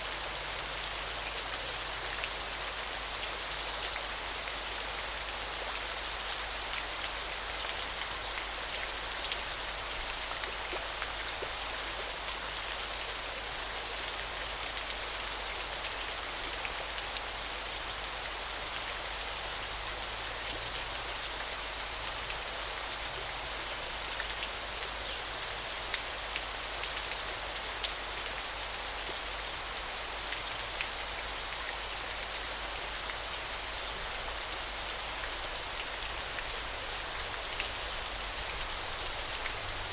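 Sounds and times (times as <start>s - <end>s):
hiss of running water: 0.0s - 39.9s.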